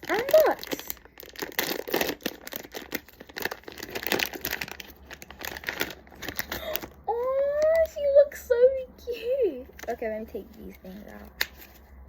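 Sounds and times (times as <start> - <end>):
plastic packaging crinkling and tearing: 0.0 - 8.2, 9.6 - 12.0.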